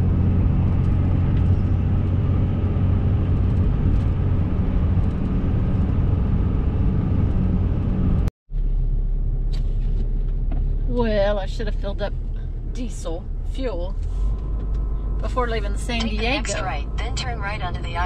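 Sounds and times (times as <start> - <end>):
low steady hum: 0.0 - 18.0
road and engine drone in cab: 0.0 - 18.0.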